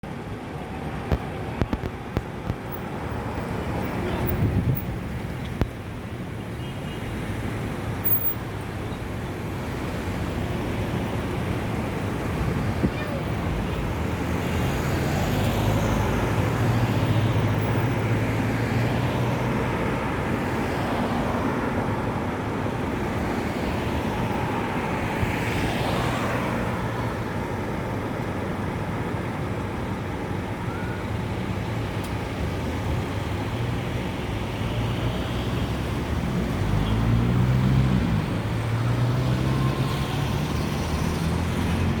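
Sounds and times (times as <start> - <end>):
cars and heavy vehicles passing: 0.0 - 42.0.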